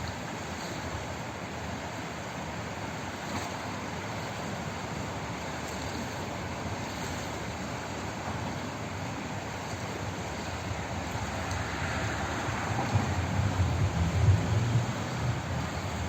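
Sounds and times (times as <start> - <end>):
rushing of flowing water: 0.0 - 16.0.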